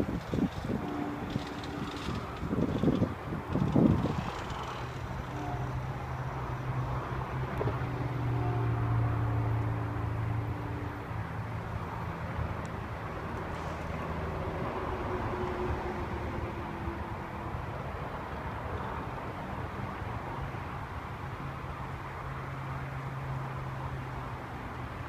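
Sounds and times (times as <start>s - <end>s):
low engine hum: 0.0s - 25.0s
traffic noise: 0.0s - 25.0s.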